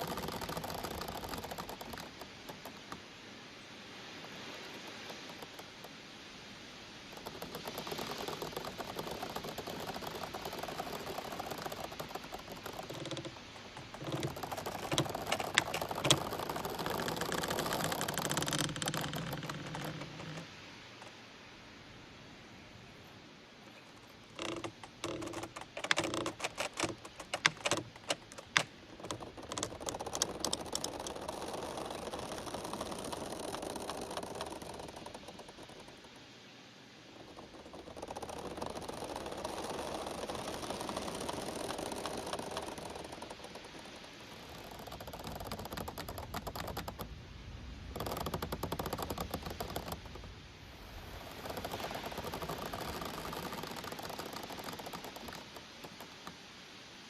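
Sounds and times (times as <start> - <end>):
bamboo stalks creaking and clacking: 0.0 - 21.4, 23.6 - 56.6
wind rustling through bamboo: 0.0 - 57.0.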